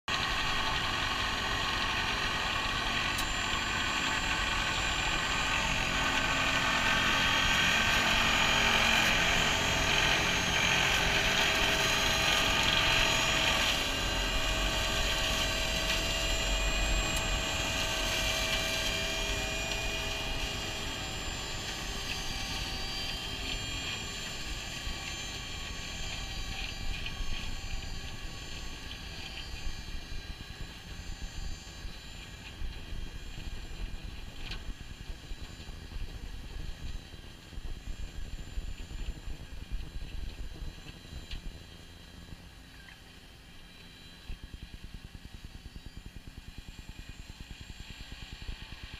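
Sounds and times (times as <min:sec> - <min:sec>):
tractor and flail mower whine: 0:00.1 - 0:48.9.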